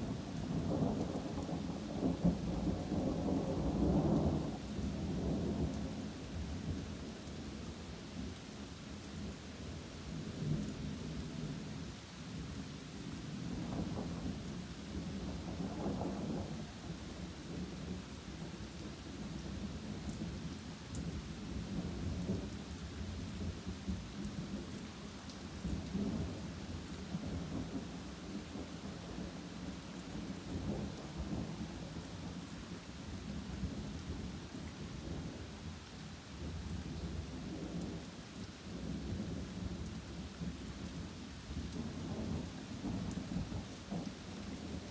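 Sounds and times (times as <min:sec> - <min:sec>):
rain falling through trees: 0:00.0 - 0:44.9.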